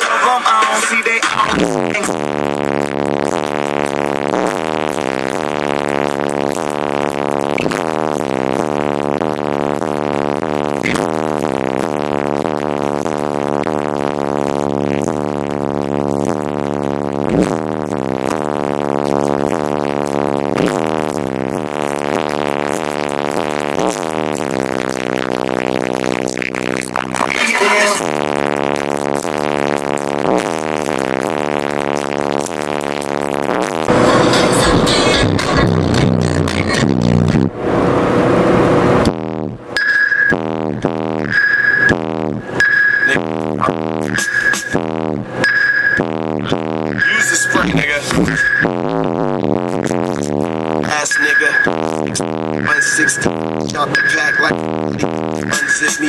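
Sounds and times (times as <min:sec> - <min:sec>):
bass-heavy music through subwoofers: 0:00.0 - 0:56.0.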